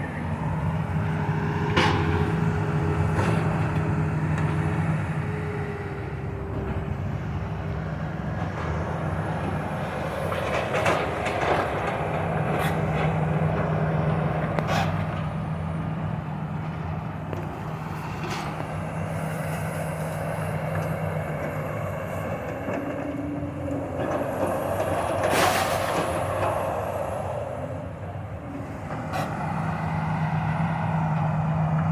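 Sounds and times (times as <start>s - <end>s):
diesel demolition machinery running: 0.0s - 31.9s.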